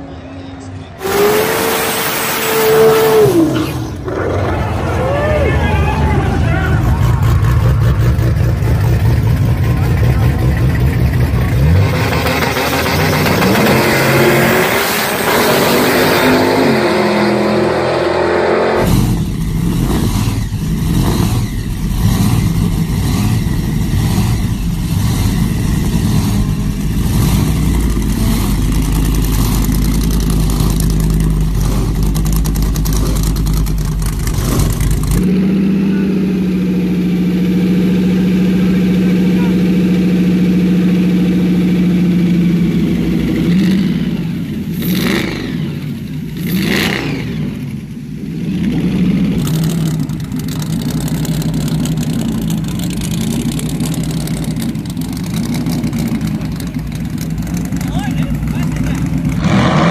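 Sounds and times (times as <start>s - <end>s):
car engine uneven pulsing: 0.0s - 59.9s
car engine idling: 0.4s - 15.2s, 18.8s - 59.9s
drag car accelerating hard: 0.6s - 59.9s.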